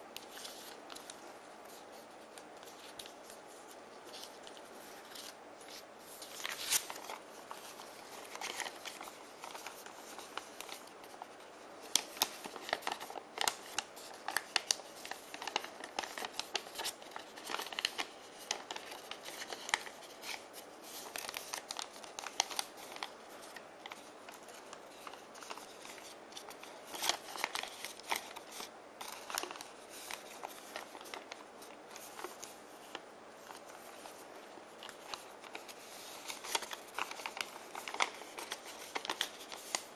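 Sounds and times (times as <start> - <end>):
paper crackling and rustling: 0.0 - 39.9.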